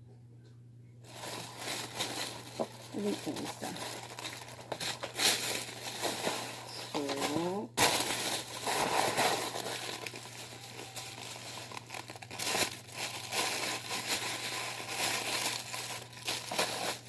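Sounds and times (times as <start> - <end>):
wrapping rustling and crinkling: 1.0 - 17.0
wrapping tearing: 1.1 - 17.0.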